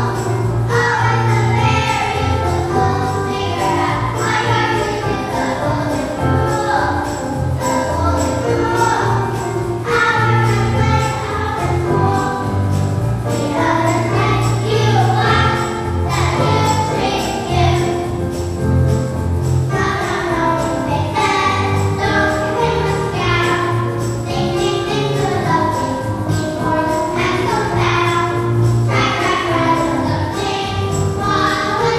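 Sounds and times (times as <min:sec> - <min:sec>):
choir singing: 0:00.0 - 0:18.4, 0:19.7 - 0:31.9
jingling bells: 0:00.0 - 0:31.9.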